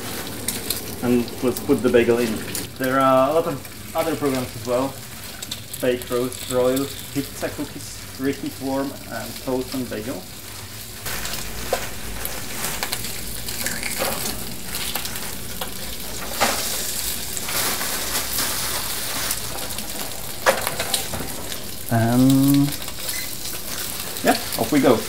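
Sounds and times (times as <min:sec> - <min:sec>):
bacon sizzling in a pan: 0:00.0 - 0:25.0.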